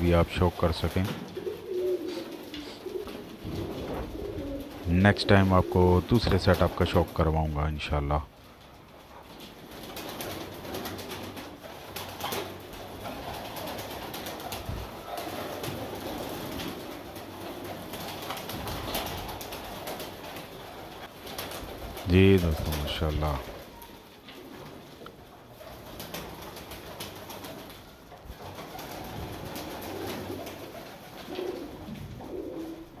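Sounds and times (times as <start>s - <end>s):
pigeons cooing: 0.0s - 6.8s, 9.0s - 33.0s
pigeons pecking grain: 0.0s - 7.2s, 8.4s - 33.0s.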